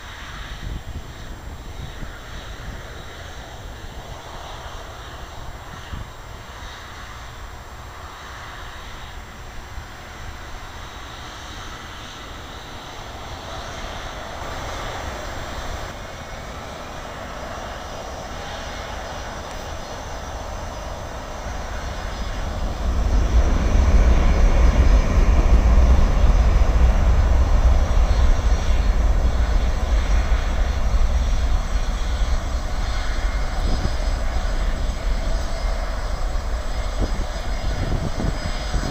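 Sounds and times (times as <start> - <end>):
jet engines whining and rumbling: 0.0 - 38.9.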